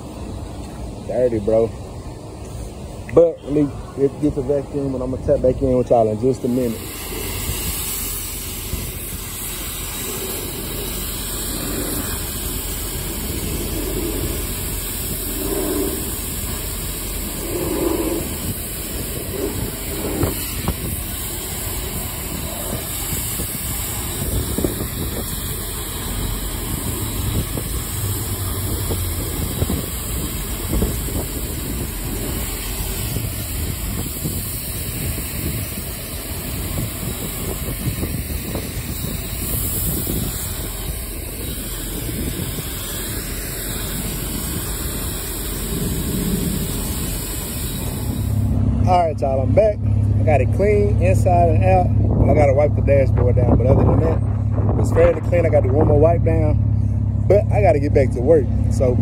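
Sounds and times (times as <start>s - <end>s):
high-pressure water spraying car: 2.4s - 56.6s.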